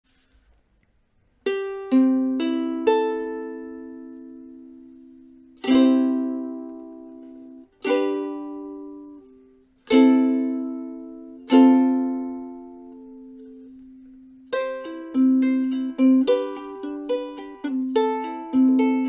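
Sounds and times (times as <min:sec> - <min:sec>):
ukulele chords strummed: 0:01.4 - 0:19.0.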